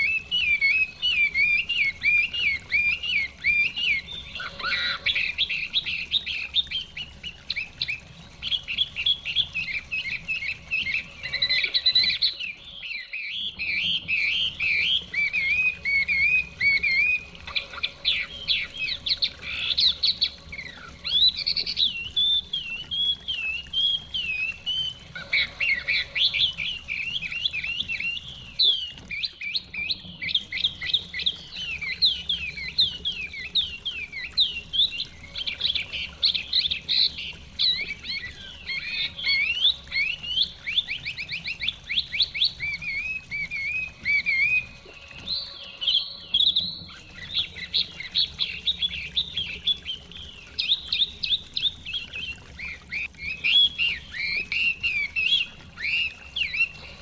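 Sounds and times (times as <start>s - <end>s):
bird singing whistled phrases: 0.0s - 57.0s
running stream water: 0.0s - 57.0s.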